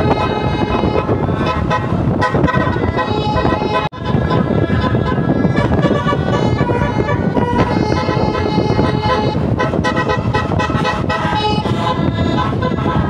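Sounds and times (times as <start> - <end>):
bus horn playing a tune: 0.0 - 13.0
loud low rumble: 0.0 - 13.0.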